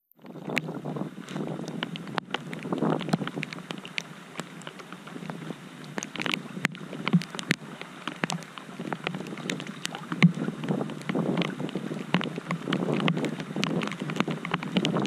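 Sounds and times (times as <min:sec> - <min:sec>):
floodwater splashing and sloshing: 0:00.2 - 0:15.0
small drips and splashes: 0:00.2 - 0:15.0.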